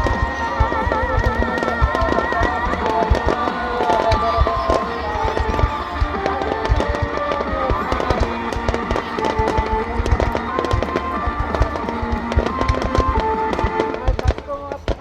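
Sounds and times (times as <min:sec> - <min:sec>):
fireworks booming: 0:00.0 - 0:15.0
music with long held notes: 0:00.0 - 0:15.0.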